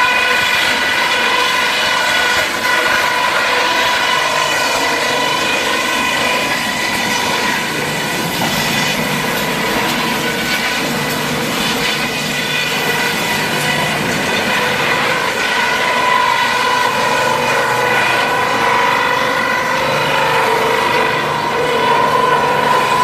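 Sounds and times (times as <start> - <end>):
wood crusher whining and grinding: 0.0 - 23.0.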